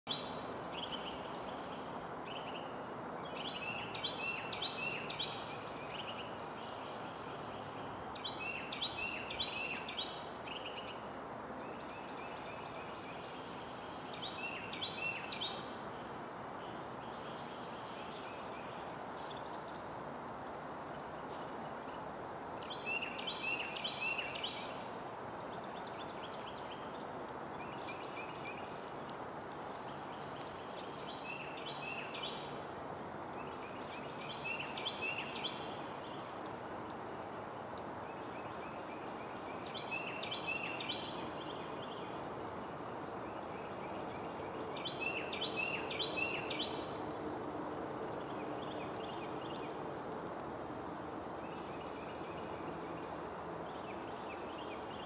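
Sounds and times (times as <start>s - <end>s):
faint outdoor hiss: 0.0s - 55.0s
insects droning: 0.0s - 55.0s.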